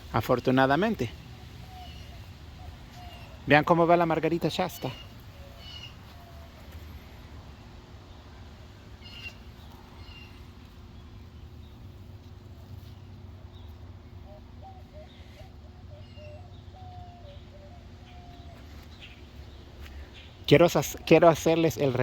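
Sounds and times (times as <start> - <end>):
steady low rumble: 0.0 - 20.6
low wavering bird calls: 0.0 - 22.0.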